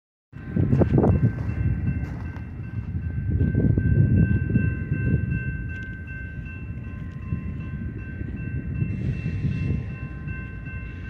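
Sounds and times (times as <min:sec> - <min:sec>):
distant freight train rumble: 0:00.4 - 0:11.0.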